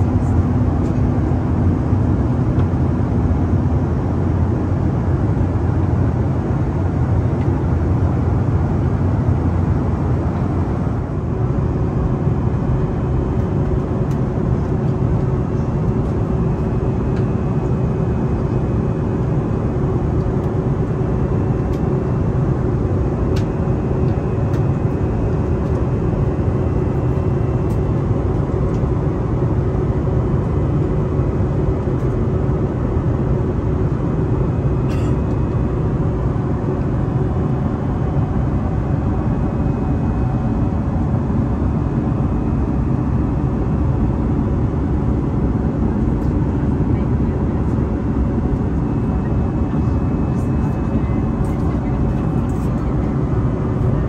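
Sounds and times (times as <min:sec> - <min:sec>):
airliner engines rumbling: 0:00.0 - 0:54.0.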